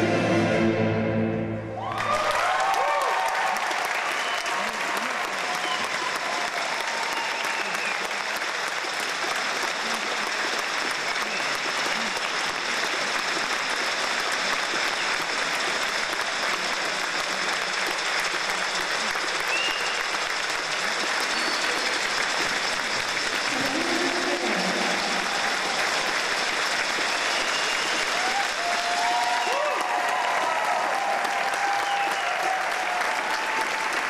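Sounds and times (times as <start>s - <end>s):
audience applauding: 1.8s - 34.0s.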